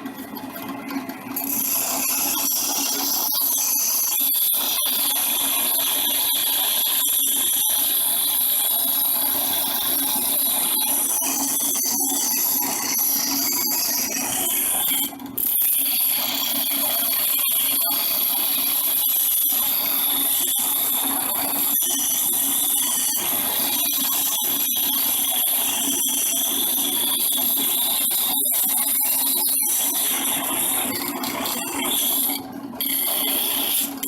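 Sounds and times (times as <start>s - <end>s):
drill press motor hum: 0.0s - 34.0s
file squealing on spinning steel: 1.3s - 34.0s.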